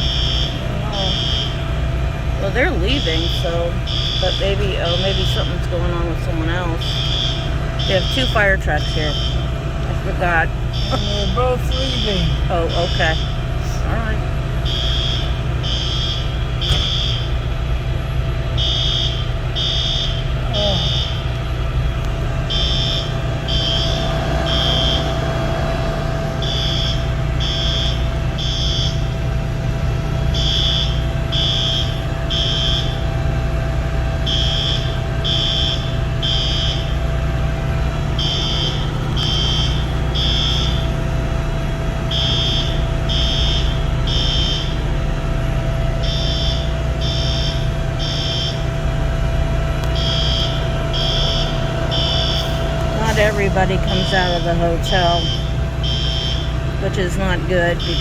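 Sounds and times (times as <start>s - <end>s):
fire alarm beeping: 0.0s - 58.0s
steady low rumble: 0.0s - 58.0s.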